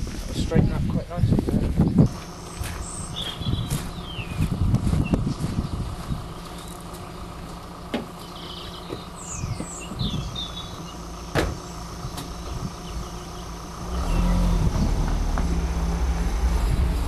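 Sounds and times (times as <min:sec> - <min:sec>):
vehicle engine idling: 0:00.0 - 0:17.0
birds chirping: 0:01.8 - 0:17.0.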